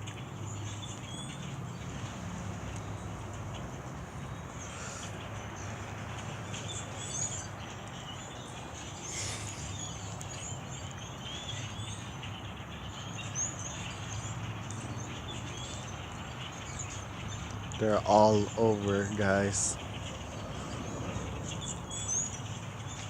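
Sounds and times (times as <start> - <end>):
flock of birds chirping: 0.0 - 23.0.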